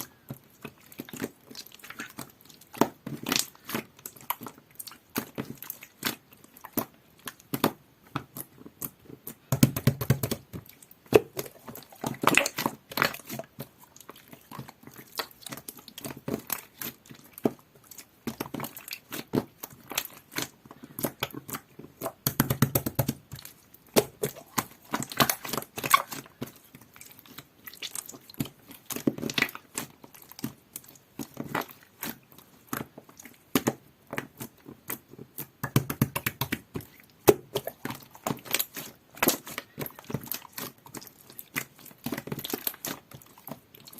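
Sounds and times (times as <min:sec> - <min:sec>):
hands squishing slime: 0:00.0 - 0:43.9.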